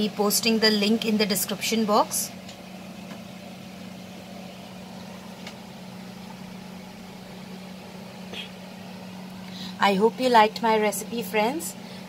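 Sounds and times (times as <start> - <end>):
machine humming with faint hiss: 0.0 - 12.0.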